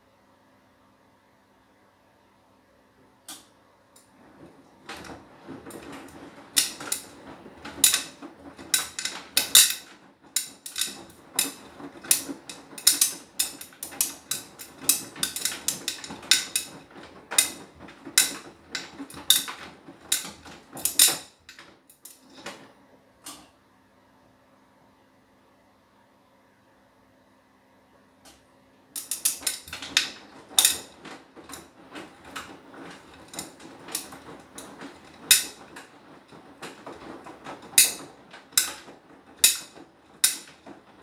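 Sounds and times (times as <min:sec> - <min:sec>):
washing machine drum turning: 0:03.3 - 0:23.6, 0:28.2 - 0:41.0.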